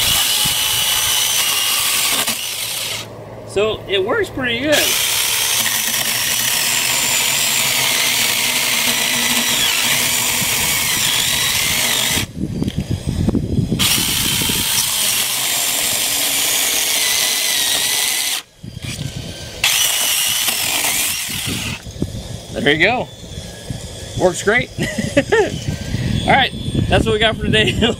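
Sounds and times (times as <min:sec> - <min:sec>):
electric chainsaw cutting wood: 0:00.0 - 0:03.1, 0:04.7 - 0:27.0.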